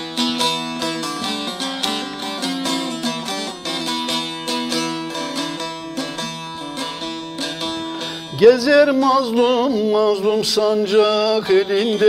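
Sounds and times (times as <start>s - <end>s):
plucked long-necked lute: 0.0s - 12.0s.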